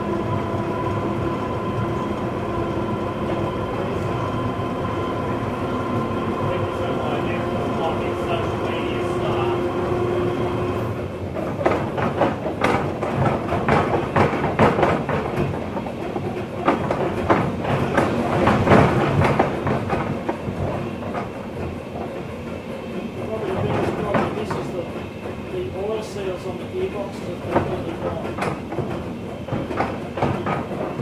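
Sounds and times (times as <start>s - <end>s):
train humming: 0.0s - 31.0s
wheels clattering on rails: 0.0s - 31.0s.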